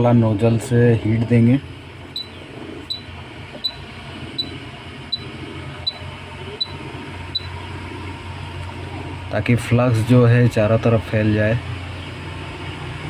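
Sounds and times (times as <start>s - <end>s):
hot air station blowing: 0.0s - 13.0s.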